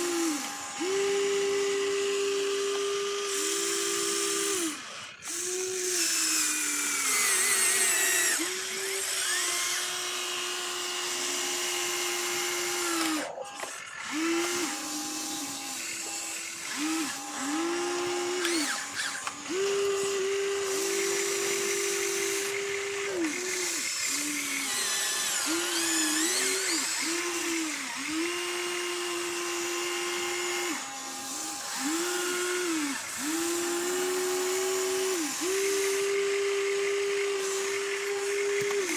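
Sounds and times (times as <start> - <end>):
small electric motors whining: 0.0 - 38.9.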